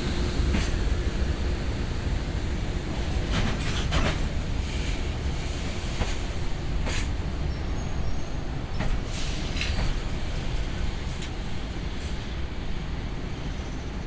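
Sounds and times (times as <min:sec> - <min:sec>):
train wheels clicking and knocking: 0:00.0 - 0:12.5
freight train rumbling: 0:00.0 - 0:14.0.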